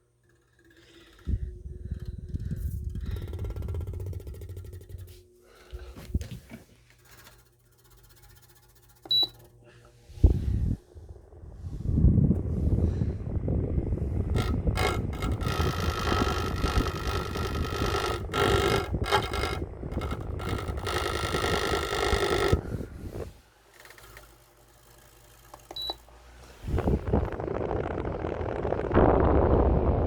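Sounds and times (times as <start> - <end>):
fan blades rattling against finger: 0.0 - 28.8.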